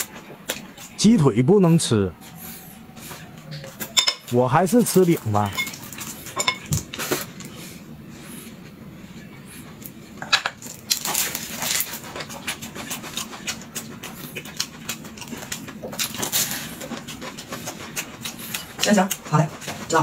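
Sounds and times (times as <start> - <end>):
man chewing wetly: 2.1 - 19.9.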